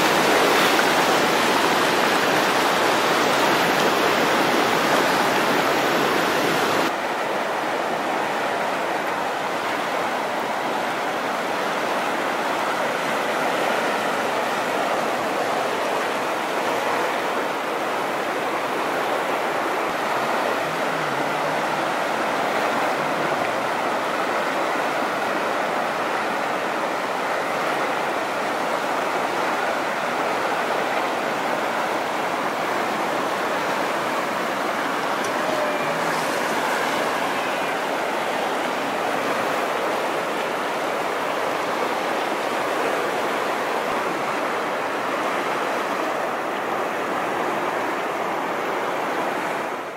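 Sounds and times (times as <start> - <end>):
whitewater rapids rushing: 0.0 - 49.9.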